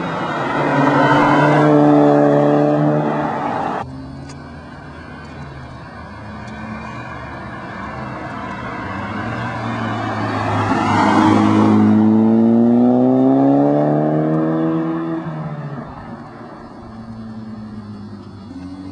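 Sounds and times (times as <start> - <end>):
car accelerating: 0.0 - 18.9.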